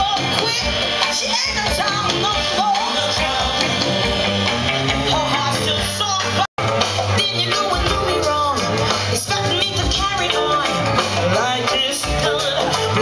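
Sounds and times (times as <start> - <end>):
woman singing: 0.0 - 3.9, 5.0 - 6.5, 7.2 - 13.0
soul band with horns playing: 0.0 - 13.0.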